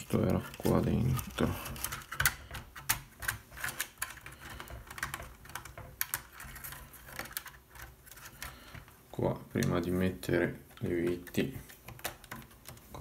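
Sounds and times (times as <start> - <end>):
plastic parts clicking and tapping: 0.0 - 9.9, 10.7 - 13.0.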